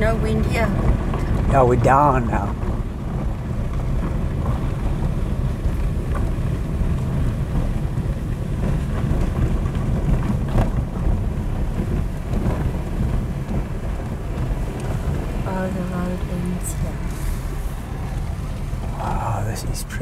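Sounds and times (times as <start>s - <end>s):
car on dirt road rumbling: 0.0s - 20.0s.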